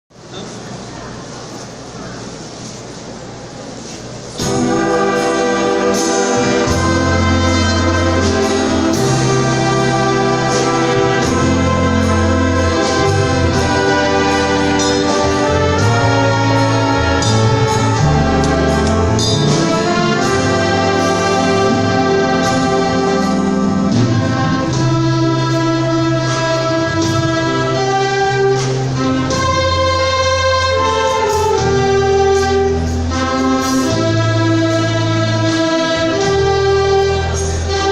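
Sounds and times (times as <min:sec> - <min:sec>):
brass band playing a hymn: 0:03.9 - 0:37.9
drum and cymbal strikes: 0:04.1 - 0:37.9.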